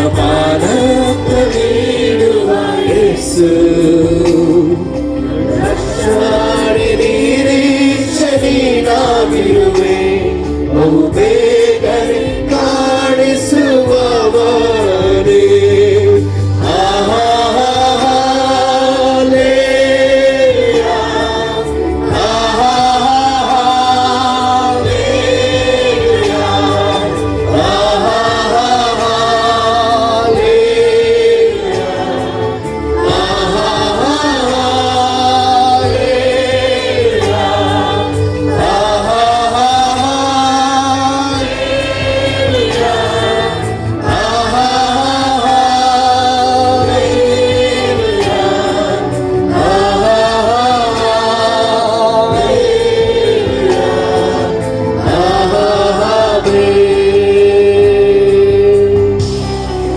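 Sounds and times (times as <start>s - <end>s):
group singing worship song: 0.0s - 59.9s
instrumental backing: 0.0s - 59.9s.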